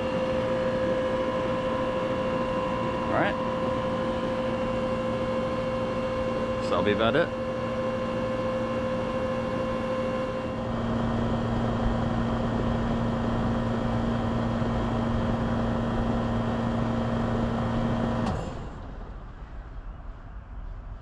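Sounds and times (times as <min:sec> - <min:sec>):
compressor shutting off click: 0:00.0 - 0:18.8.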